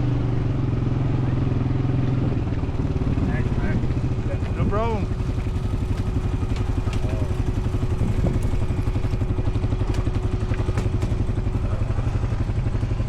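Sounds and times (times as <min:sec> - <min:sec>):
engine idling with pulsing beat: 0:00.0 - 0:13.0.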